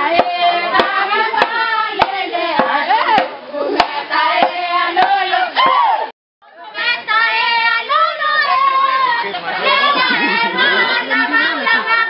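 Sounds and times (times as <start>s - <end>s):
group singing: 0.0s - 12.0s.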